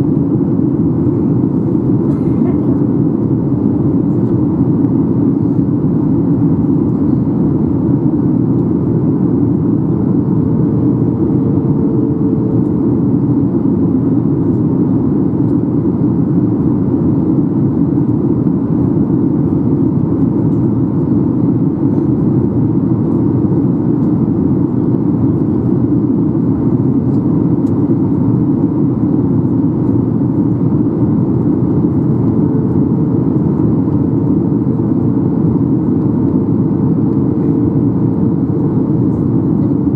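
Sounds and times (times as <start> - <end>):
airplane cabin roar: 0.0 - 39.9
faint steady hum: 0.0 - 39.9.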